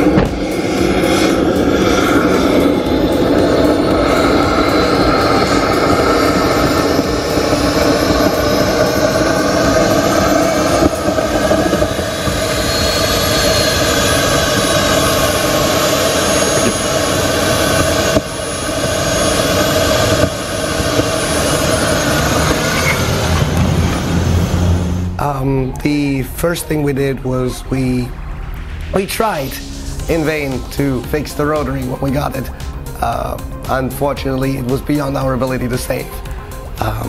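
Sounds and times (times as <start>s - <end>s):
car engine roaring with whine: 0.0s - 37.0s.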